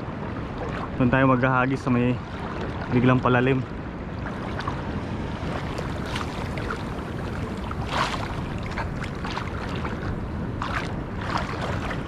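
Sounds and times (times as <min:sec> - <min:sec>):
sea waves washing against shore: 0:00.0 - 0:12.0.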